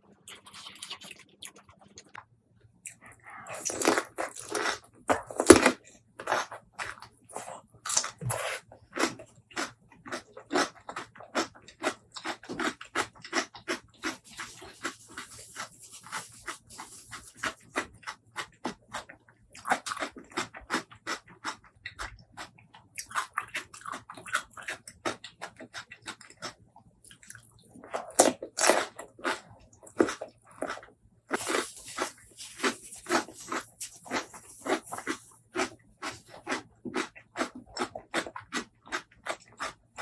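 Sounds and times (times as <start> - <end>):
person chewing: 0.2 - 2.2, 2.8 - 40.0.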